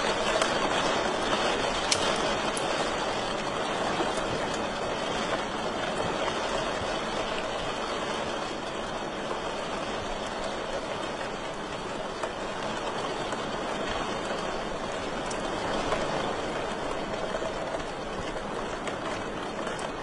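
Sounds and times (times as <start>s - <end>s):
wood fire hissing and crackling: 0.0s - 20.0s.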